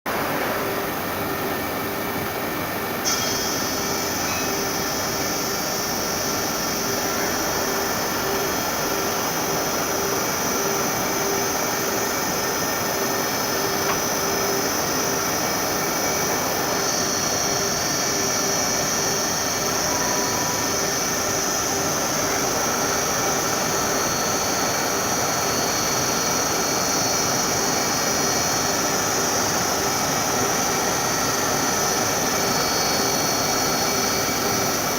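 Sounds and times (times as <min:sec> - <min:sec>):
high-pitched machine whine: 0:00.1 - 0:34.9.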